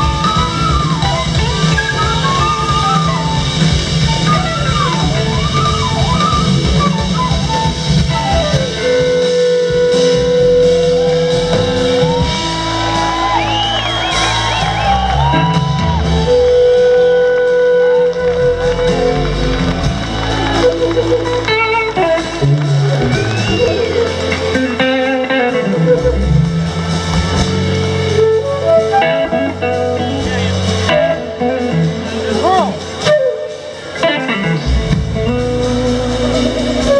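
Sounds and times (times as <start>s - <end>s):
bass guitar: 0.0s - 36.9s
drum kits: 0.0s - 36.9s
electric guitars: 0.0s - 36.9s.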